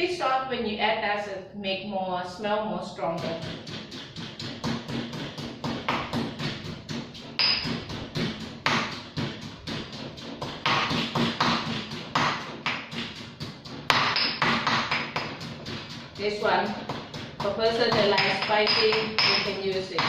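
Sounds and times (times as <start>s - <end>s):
pestle pounding in a mortar: 3.2s - 20.0s.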